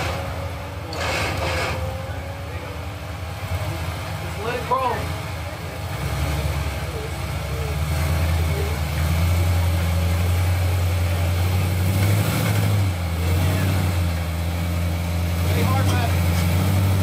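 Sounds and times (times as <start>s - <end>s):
buggy engine running low: 0.0s - 17.0s.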